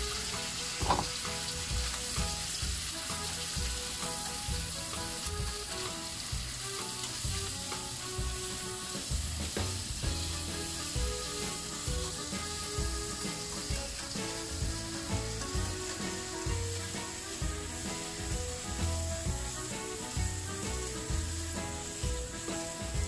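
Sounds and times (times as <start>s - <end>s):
chopsticks stirring food: 0.0s - 23.0s
onion and bacon sizzling in pan: 0.0s - 23.0s.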